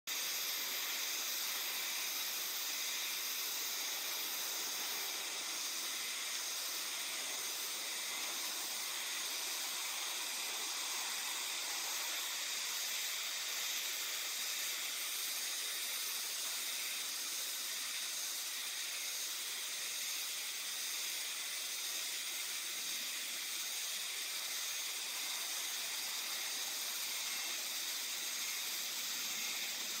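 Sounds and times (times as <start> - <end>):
cicadas buzzing: 0.1 - 30.0.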